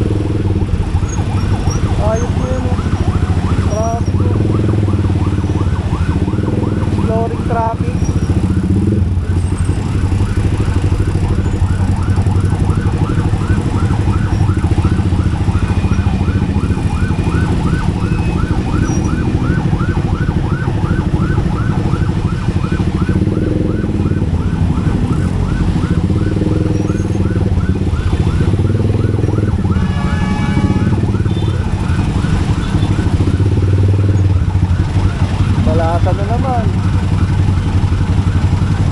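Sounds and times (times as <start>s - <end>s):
vehicle engine running: 0.0s - 38.9s
yelping siren: 0.0s - 38.9s.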